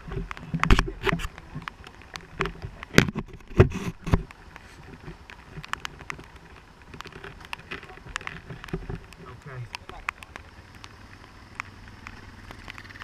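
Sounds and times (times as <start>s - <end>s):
rain tapping on camera housing: 0.0s - 13.0s.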